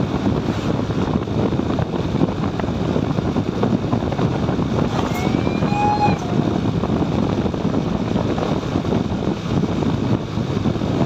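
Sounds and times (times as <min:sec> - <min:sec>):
motorcycle engine rumble: 0:00.0 - 0:11.0
road noise: 0:00.0 - 0:11.0
wind buffeting microphone: 0:00.0 - 0:11.0.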